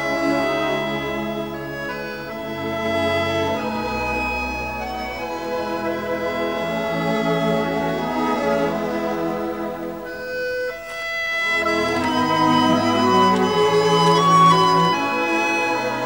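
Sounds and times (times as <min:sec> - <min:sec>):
orchestral strings music: 0:00.0 - 0:16.0.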